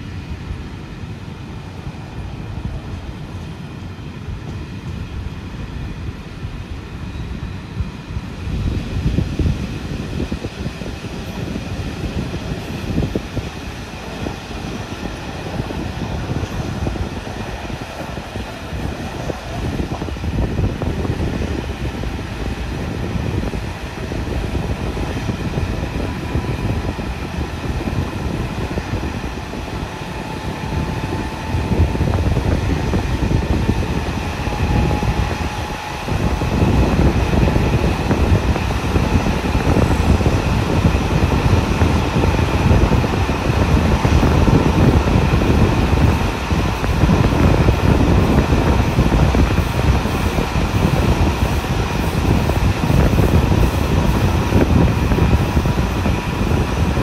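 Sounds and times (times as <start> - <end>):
train wheels rumbling on rails: 0.0 - 57.0
wind rushing: 7.4 - 57.0.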